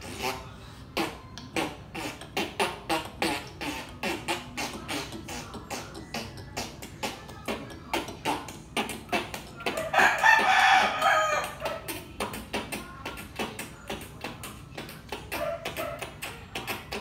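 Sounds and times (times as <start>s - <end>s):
child beatboxing: 0.0s - 17.0s.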